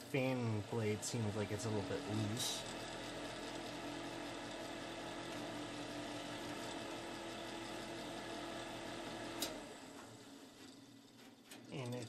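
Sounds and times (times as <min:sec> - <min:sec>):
heater fan humming: 0:00.0 - 0:12.0.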